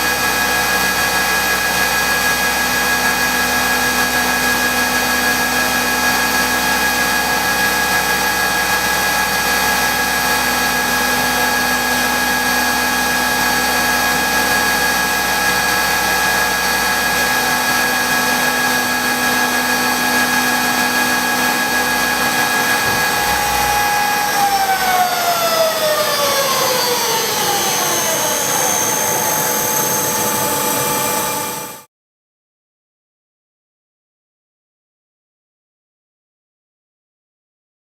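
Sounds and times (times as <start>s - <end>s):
machine spindle whining: 0.0s - 31.8s.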